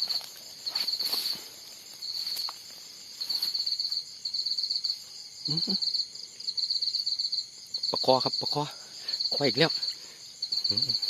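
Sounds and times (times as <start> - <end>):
insects chirping in trills: 0.0 - 11.0.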